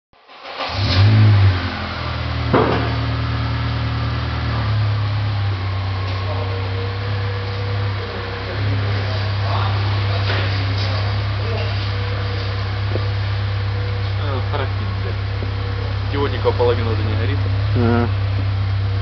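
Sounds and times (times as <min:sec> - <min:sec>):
car engine revving and idling: 0:00.3 - 0:19.0.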